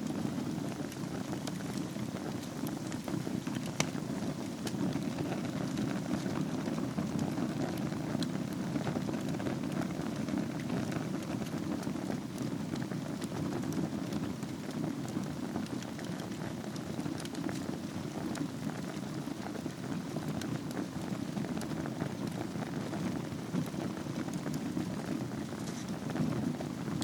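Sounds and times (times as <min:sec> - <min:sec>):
fire crackling and popping: 0:00.0 - 0:27.0
low rush of flame: 0:00.0 - 0:27.0.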